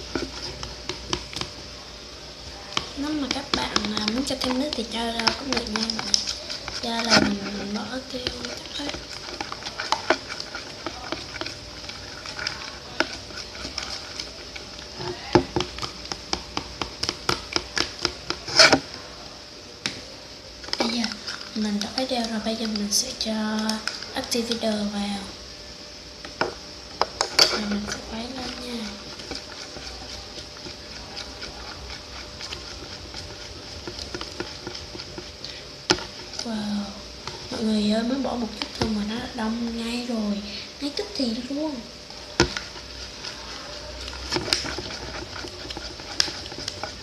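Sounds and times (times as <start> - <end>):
stirrer tapping container sides: 0.0 - 1.6, 2.7 - 18.9, 20.6 - 24.8, 26.2 - 36.5, 38.4 - 39.8, 42.3 - 47.0
stirrer scraping: 0.0 - 19.2, 19.8 - 25.4, 26.1 - 47.0.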